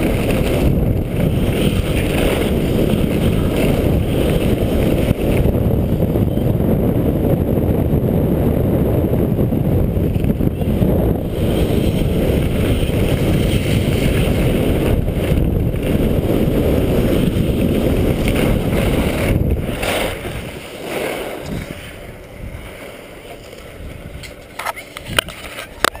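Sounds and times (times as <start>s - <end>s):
wind over microphone: 0.0s - 26.0s.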